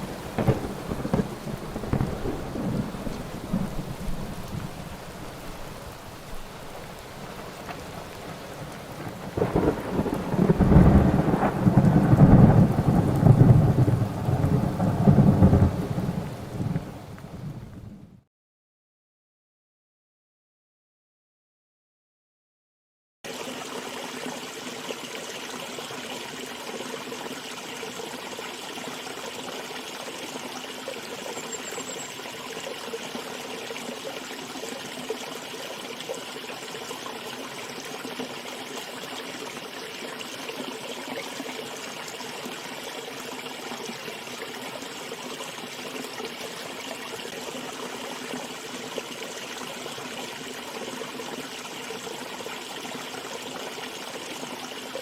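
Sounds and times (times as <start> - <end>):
stream water flowing: 0.0 - 17.4, 23.3 - 55.0.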